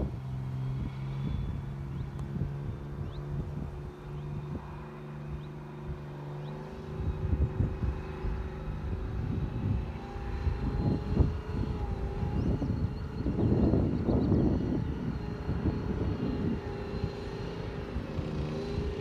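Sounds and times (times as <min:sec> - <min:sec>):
off-road vehicle engine climbing: 0:00.0 - 0:19.0
steady whine: 0:00.0 - 0:19.0.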